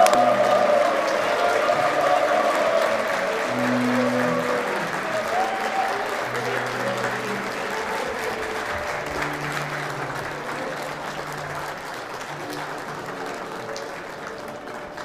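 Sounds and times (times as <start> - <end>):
audience applauding: 0.0 - 15.0
instrumental music: 0.0 - 15.0.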